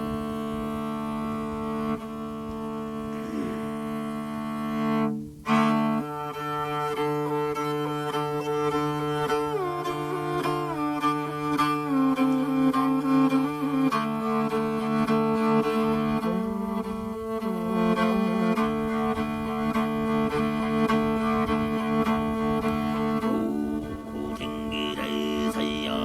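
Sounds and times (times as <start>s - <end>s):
bowed string: 0.0s - 26.0s
throat singing drone: 0.0s - 26.0s.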